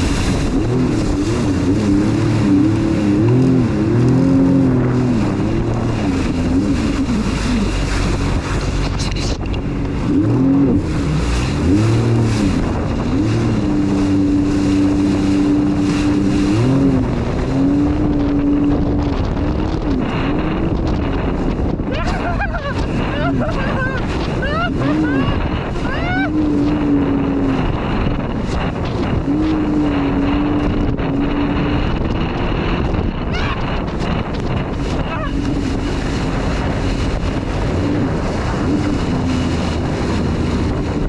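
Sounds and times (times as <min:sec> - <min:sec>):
jet ski engine revving: 0:00.0 - 0:41.0
wind noise on microphone: 0:00.0 - 0:41.0.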